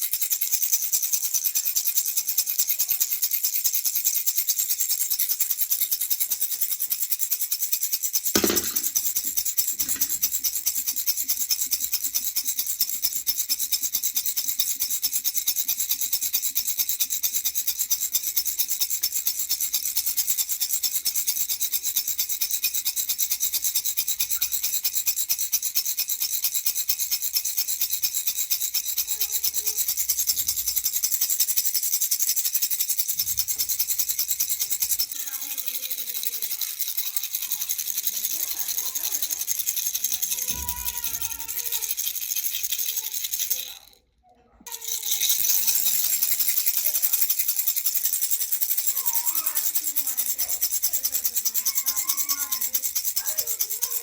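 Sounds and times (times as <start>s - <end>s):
baby rattle shaken: 0.0s - 54.0s.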